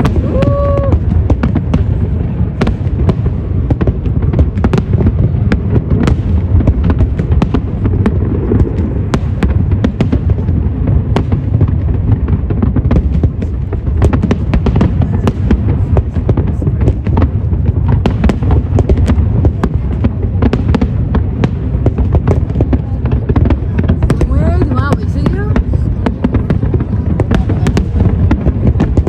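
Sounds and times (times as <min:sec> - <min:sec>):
fireworks cracks and bangs: 0:00.0 - 0:29.0
low rumble of fireworks: 0:00.0 - 0:29.0.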